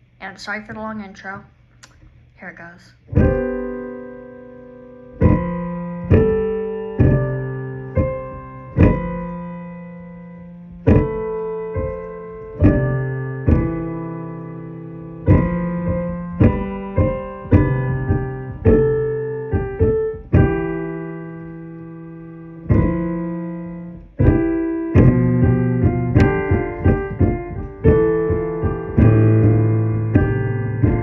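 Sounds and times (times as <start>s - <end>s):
electric piano chords: 3.0s - 31.0s.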